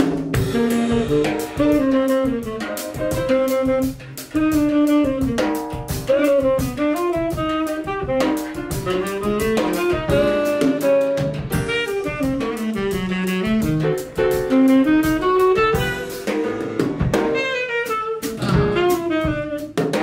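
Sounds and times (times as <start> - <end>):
drum kit played with rods: 0.0 - 20.0
piano: 0.0 - 20.0
tenor saxophone melody: 0.4 - 20.0.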